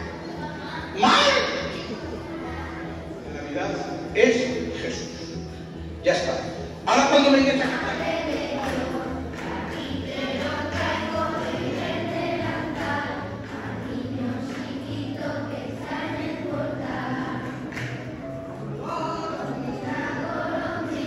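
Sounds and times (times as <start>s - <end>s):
children's choir singing: 0.0s - 3.3s, 6.9s - 21.0s.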